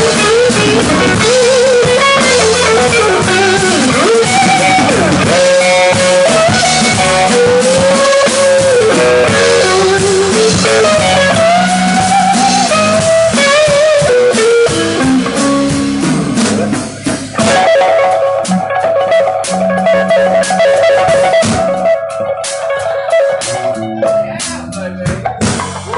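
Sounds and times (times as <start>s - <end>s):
bass guitar: 0.0s - 25.9s
drum kit: 0.0s - 25.9s
electric guitar lead: 0.0s - 25.9s.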